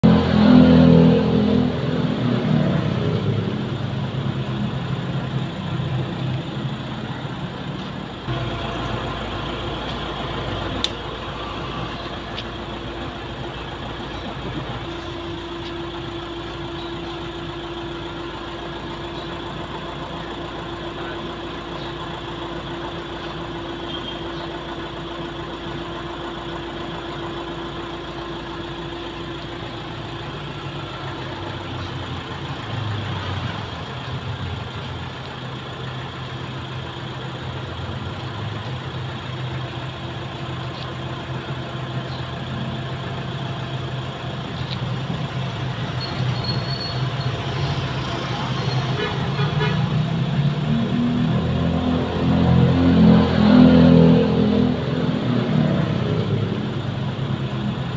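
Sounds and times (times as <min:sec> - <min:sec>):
engine-like hum: 0:00.0 - 0:57.9.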